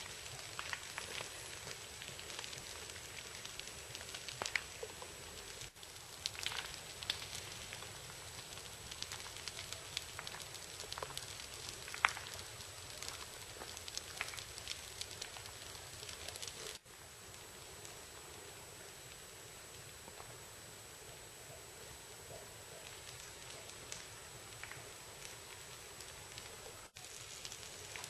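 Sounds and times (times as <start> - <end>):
crackling clicks: 0.0 - 18.0, 22.3 - 28.0
steady hiss: 0.0 - 28.0.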